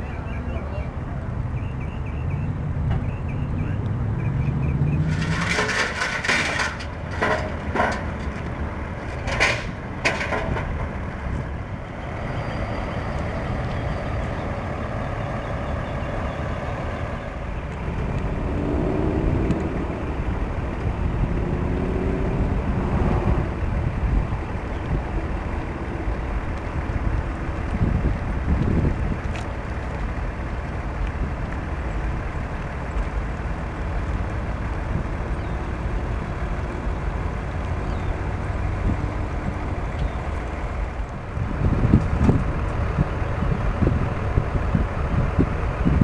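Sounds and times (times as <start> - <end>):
truck engine rumbling: 0.0 - 46.0.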